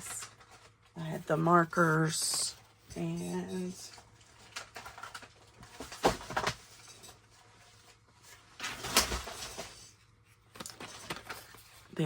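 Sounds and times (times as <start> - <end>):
craft supplies clattering: 0.0 - 7.5, 8.3 - 10.0, 10.6 - 12.0.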